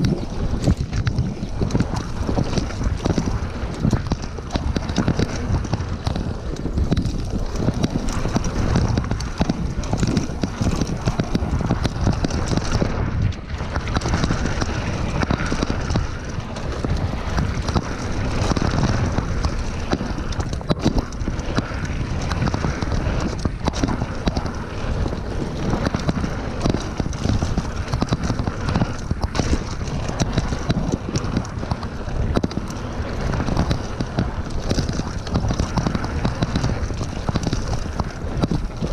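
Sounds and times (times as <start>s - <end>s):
bike rattling over bumps: 0.0s - 38.9s
tyres rumbling on dirt: 0.0s - 38.9s
wind buffeting microphone: 0.0s - 38.9s.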